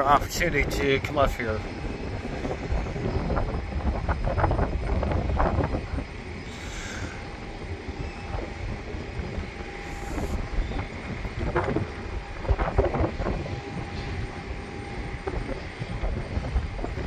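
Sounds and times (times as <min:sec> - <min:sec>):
low rumble: 0:00.0 - 0:17.0
wind buffeting microphone: 0:00.0 - 0:17.0.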